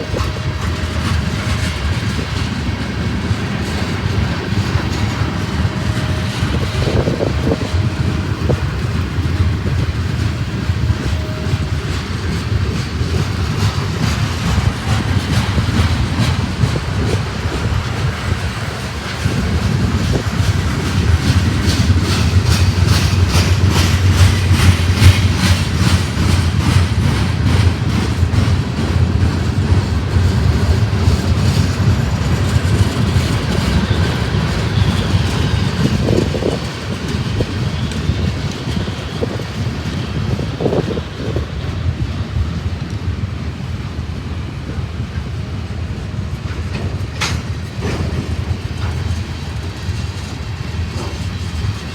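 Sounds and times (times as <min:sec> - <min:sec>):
wheels clicking over rail joints: 0:00.0 - 0:43.8, 0:44.7 - 0:51.9
freight train rumbling past: 0:00.0 - 0:51.9.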